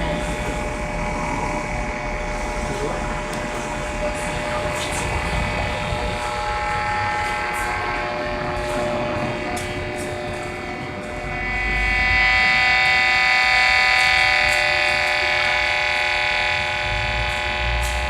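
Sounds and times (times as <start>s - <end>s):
electrical buzzing hum: 0.0s - 18.0s
rough low rumble: 0.0s - 18.0s.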